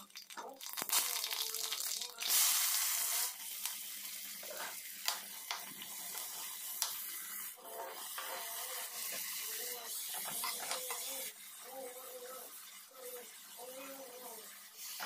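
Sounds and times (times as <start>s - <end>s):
leaves sizzling in hot oil: 0.0s - 11.7s, 14.4s - 15.0s.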